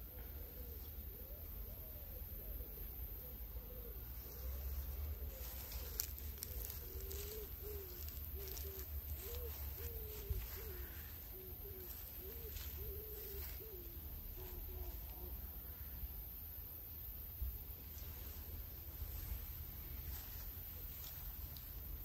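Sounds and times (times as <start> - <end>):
bird cooing: 0.0 - 16.0, 18.0 - 22.0.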